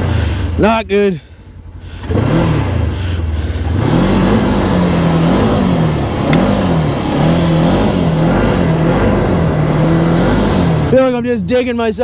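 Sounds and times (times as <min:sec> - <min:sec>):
tires spinning in snow: 0:00.0 - 0:00.8, 0:01.9 - 0:11.4
engine revving: 0:00.0 - 0:00.9, 0:01.8 - 0:11.5.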